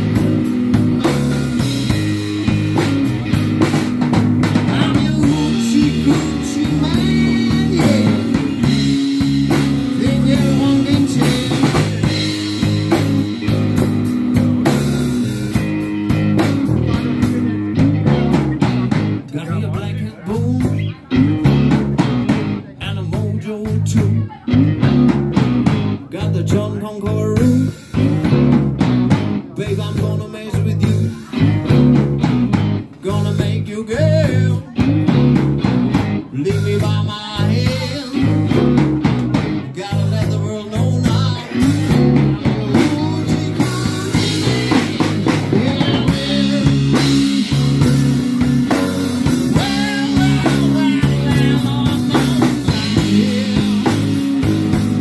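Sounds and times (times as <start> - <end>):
bass guitar: 0.0 - 55.0
drum kit: 0.0 - 55.0
electric guitar lead lines: 0.0 - 55.0.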